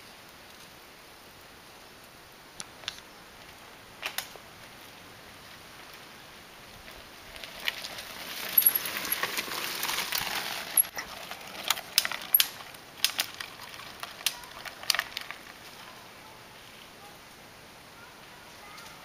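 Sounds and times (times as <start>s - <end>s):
bike tyres rolling on gravel: 0.0s - 17.1s.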